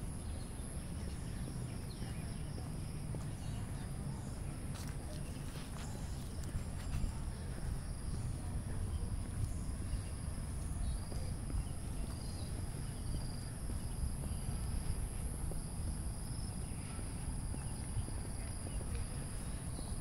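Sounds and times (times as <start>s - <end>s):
low microphone rumble: 0.0s - 20.0s.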